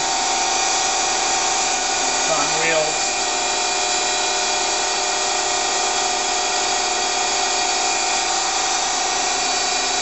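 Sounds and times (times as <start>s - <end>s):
lathe high whine: 0.0s - 10.0s.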